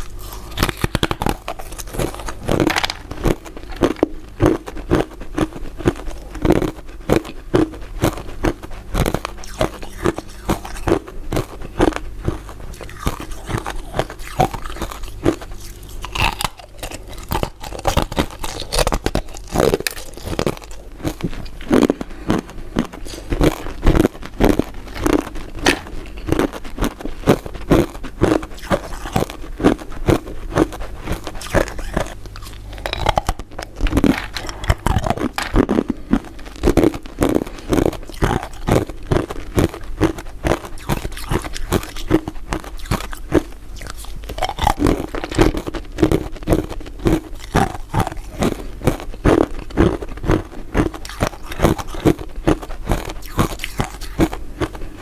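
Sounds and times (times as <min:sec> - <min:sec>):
crunching and chewing ice dessert: 0:00.0 - 0:55.0.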